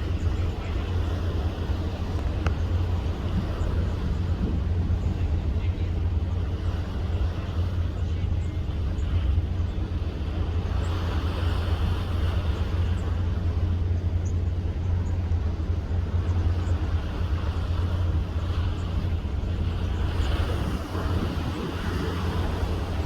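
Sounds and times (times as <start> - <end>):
ship low rumble: 0.0 - 23.0
wind and sea hiss: 0.0 - 23.0.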